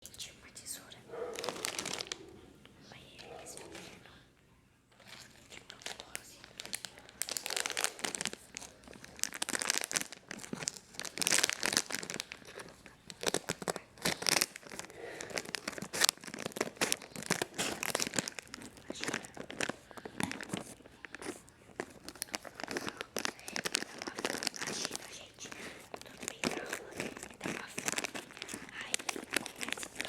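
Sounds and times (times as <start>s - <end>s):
packaging crinkling and tearing: 1.3s - 2.3s, 5.0s - 30.0s.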